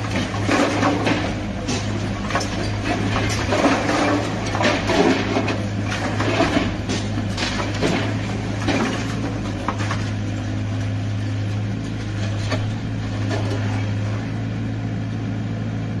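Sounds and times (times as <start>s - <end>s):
debris knocking and cracking: 0.0s - 14.3s
excavator diesel engine running: 0.0s - 16.0s.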